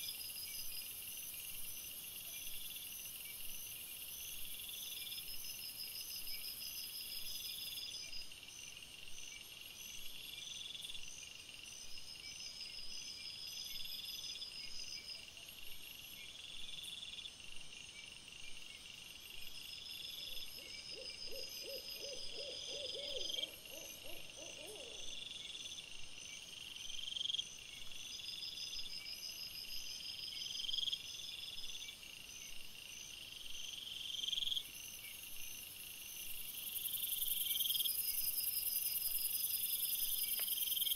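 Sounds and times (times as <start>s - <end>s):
crickets chirping: 0.0s - 40.9s
low rapidly pulsed insect call: 0.0s - 40.9s.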